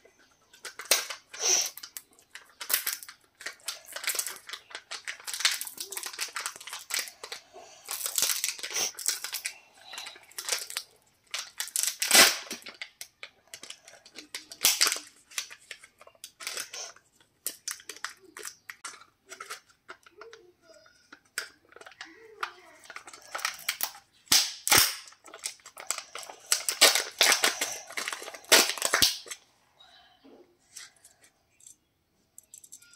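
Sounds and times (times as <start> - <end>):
foil and plastic wrapper crinkling: 0.0 - 29.4.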